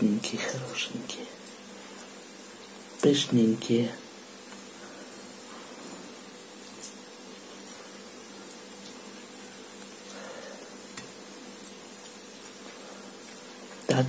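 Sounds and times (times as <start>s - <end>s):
low background hiss and hum: 0.0s - 14.0s.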